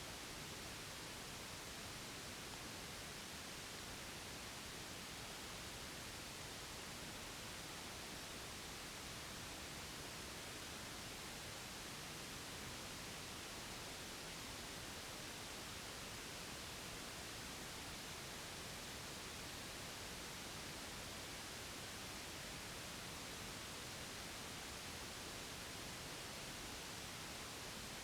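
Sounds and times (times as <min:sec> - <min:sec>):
steady white noise hiss: 0:00.0 - 0:28.0.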